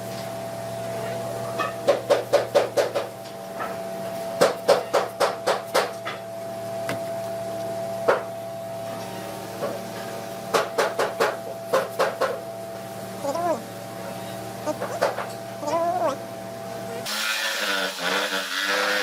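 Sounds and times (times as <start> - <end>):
steady hum: 0.0 - 17.1.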